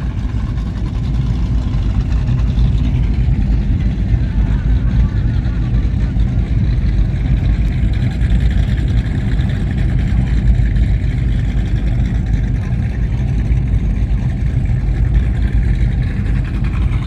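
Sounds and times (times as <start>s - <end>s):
powerboat engines running loudly: 0.0s - 17.0s.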